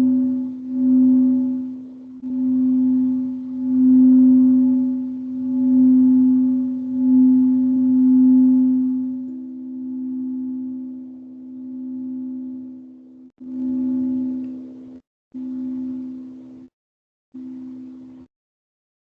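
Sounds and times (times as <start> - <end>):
higher singing bowl tone: 0.0 - 16.7, 17.4 - 18.1
singing bowl tone: 0.0 - 16.7, 17.4 - 18.3.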